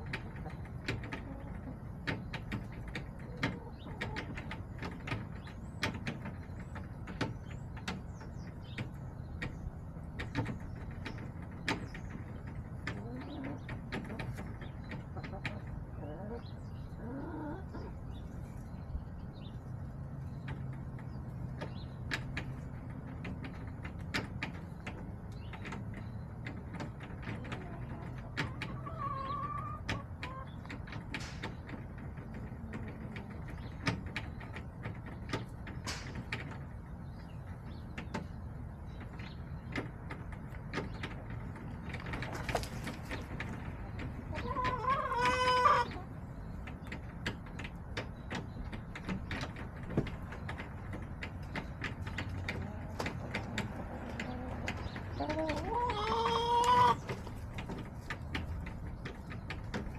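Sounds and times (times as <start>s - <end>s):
hens clucking: 0.0s - 59.9s.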